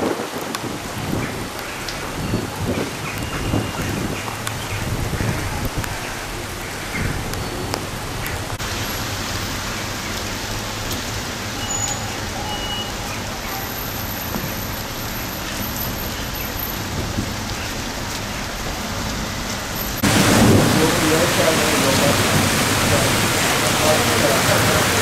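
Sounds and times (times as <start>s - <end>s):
cars passing on wet road: 0.0s - 25.0s
steady rain: 0.0s - 25.0s.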